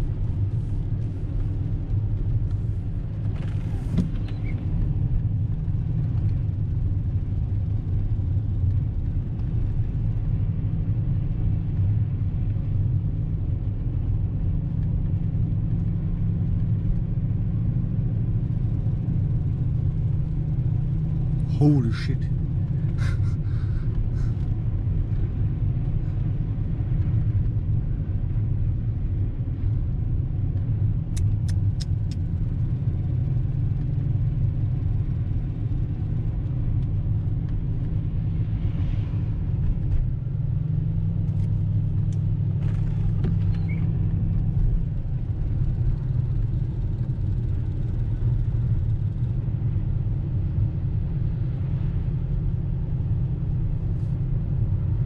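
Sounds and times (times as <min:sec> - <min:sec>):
engine rumbling steadily: 0:00.0 - 0:55.0.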